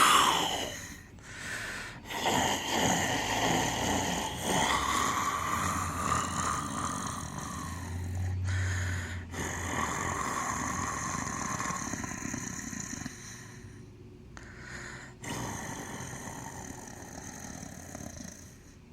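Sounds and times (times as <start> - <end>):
person imitating tiger growl: 0.0 - 1.0, 2.0 - 13.6, 15.2 - 18.6.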